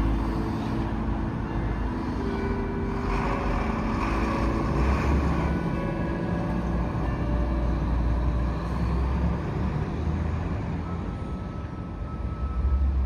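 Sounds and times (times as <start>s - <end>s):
church bells ringing: 0.0s - 11.3s
low rumble of street traffic: 0.0s - 13.0s.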